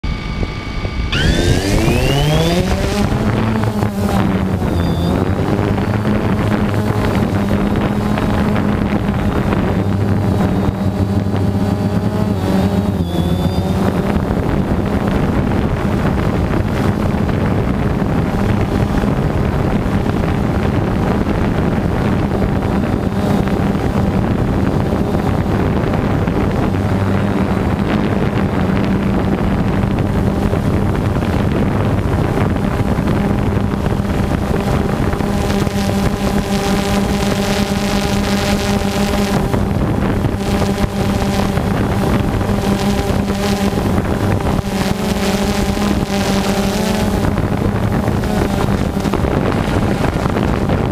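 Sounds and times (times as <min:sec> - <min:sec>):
drone propellers humming: 0:00.0 - 0:50.9
wind noise on microphone: 0:00.0 - 0:50.9.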